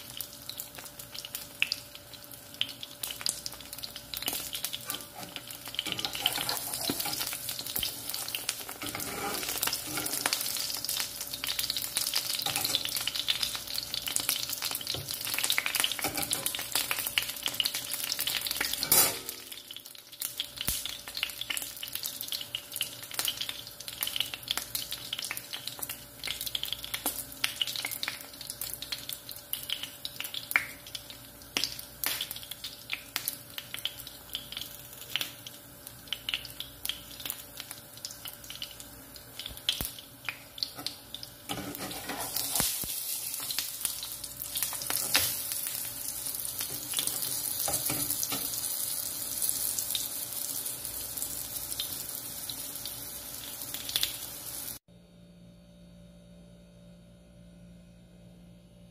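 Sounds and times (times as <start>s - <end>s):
loud steady frying hiss: 0.0s - 54.8s
pancake batter sizzling: 0.0s - 54.9s.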